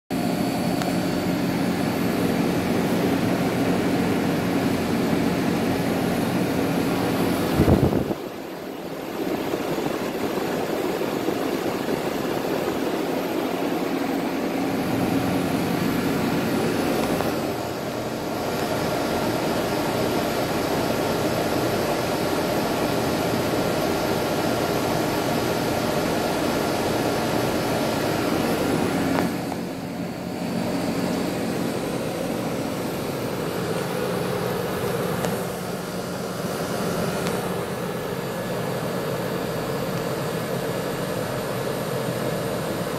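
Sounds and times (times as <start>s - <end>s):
air conditioner fan rushing: 0.2s - 42.9s.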